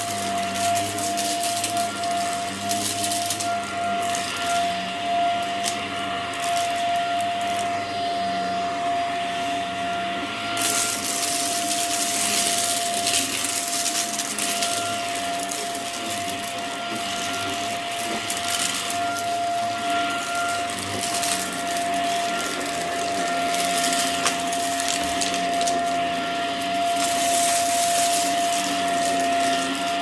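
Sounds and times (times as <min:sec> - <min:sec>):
brush roll crunching debris: 0:00.0 - 0:04.7, 0:10.6 - 0:30.0
vacuum cleaner motor whine: 0:00.0 - 0:30.0.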